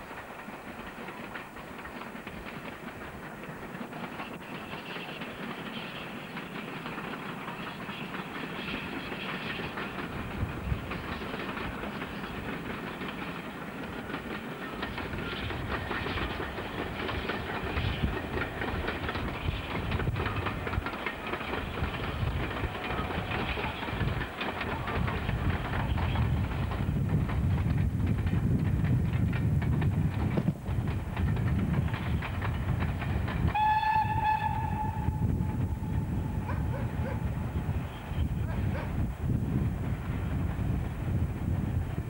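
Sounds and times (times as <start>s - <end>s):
train wheels clattering over rail joints: 0.0s - 42.0s.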